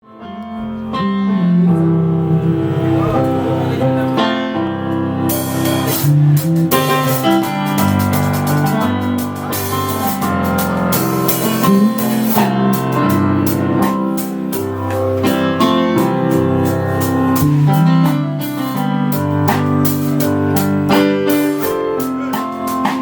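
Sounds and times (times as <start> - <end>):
keyboard: 0.0 - 23.0
plucked guitar: 0.2 - 23.0
steady beat: 1.4 - 23.0.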